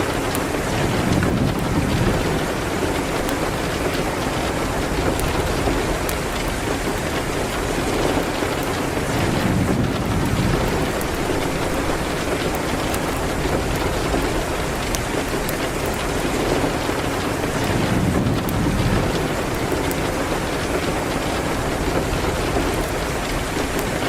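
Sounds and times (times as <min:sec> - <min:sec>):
fire crackling in a fireplace: 0:00.0 - 0:24.0
rain hitting a window: 0:00.0 - 0:24.0.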